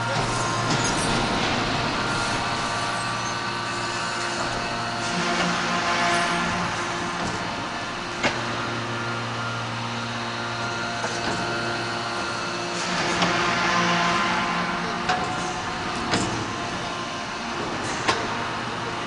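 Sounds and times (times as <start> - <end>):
hydraulic press humming: 0.0 - 19.0.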